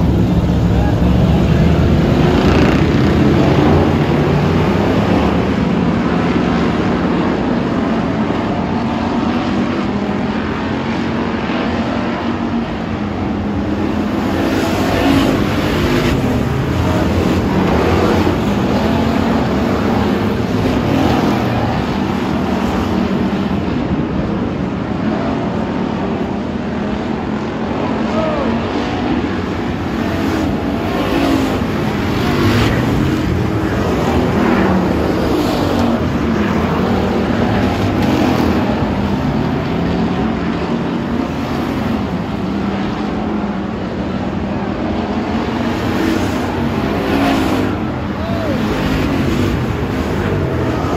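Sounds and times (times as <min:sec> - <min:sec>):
race car engines revving: 0:00.0 - 0:50.9.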